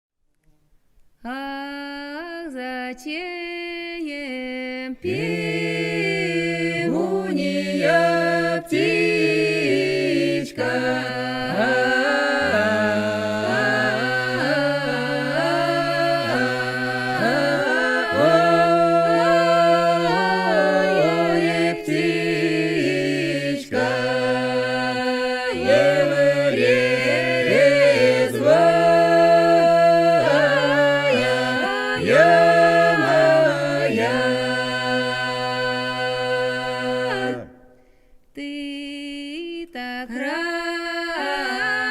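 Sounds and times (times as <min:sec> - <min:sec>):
unaccompanied polyphonic folk singing: 0:01.3 - 0:37.7, 0:38.4 - 0:41.9.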